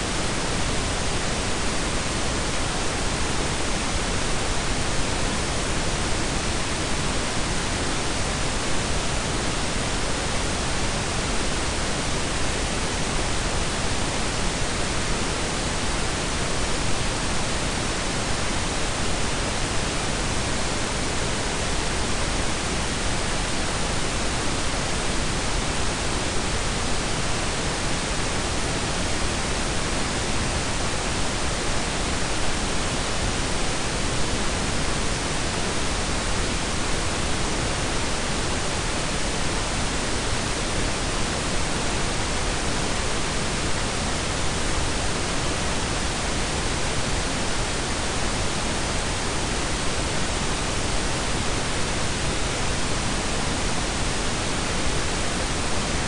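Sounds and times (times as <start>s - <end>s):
steady noise hiss: 0.0s - 56.0s.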